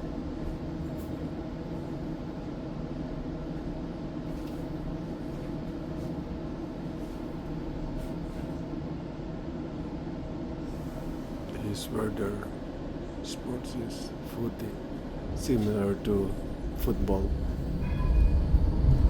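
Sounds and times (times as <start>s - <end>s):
tram rumble and hum: 0.0s - 19.0s.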